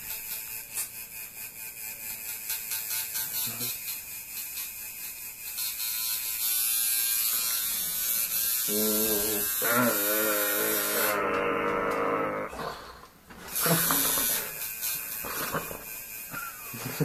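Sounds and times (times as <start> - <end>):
tattoo machine buzzing: 0.0 - 12.3, 13.5 - 17.0.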